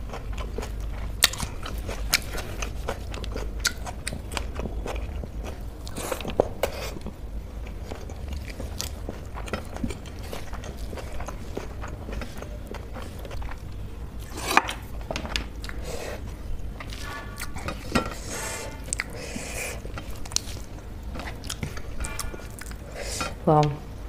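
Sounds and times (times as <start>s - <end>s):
chewing and wet mouth sounds: 0.0s - 23.2s.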